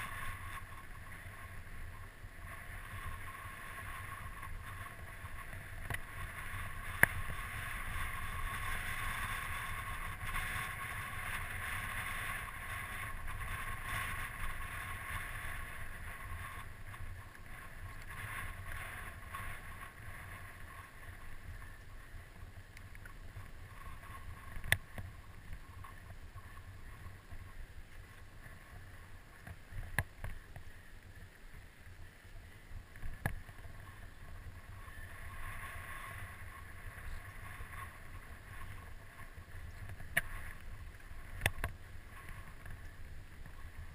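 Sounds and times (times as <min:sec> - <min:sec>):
bike tyres rolling over dirt: 0:00.0 - 0:43.9.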